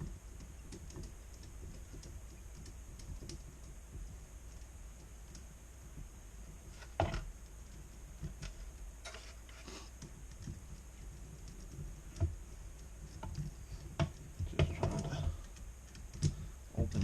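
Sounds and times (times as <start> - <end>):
light clicks and knocks: 0.0 - 17.0.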